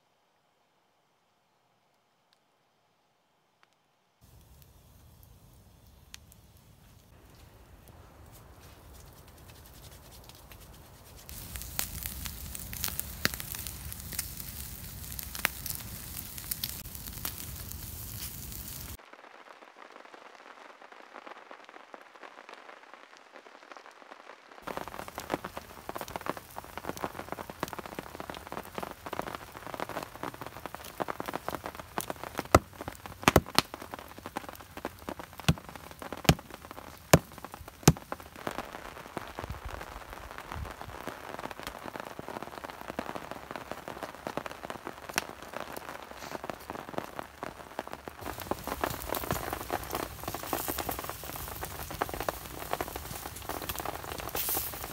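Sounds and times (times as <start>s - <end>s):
wood fire crackling: 3.6s - 54.9s
rain pattering on ground: 4.2s - 54.9s.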